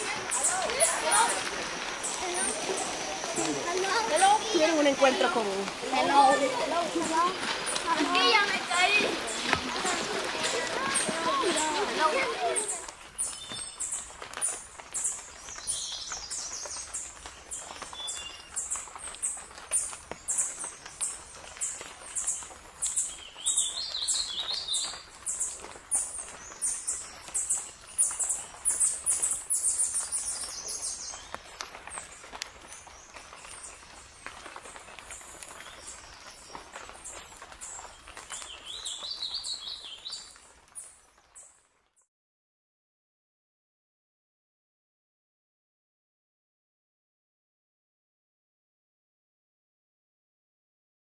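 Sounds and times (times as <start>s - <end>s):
birds chirping: 0.0s - 41.6s.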